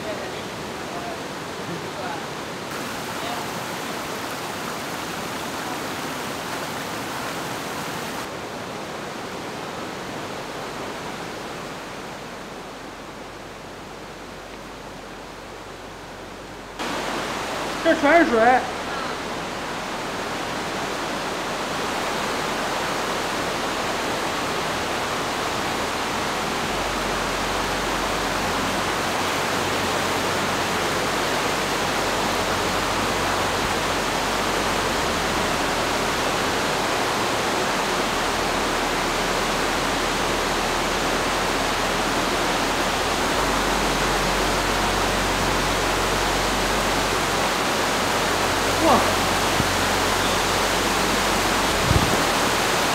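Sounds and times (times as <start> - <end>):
water rushing in a rock tunnel: 0.0 - 52.9
water streaming from a roof: 0.0 - 52.9.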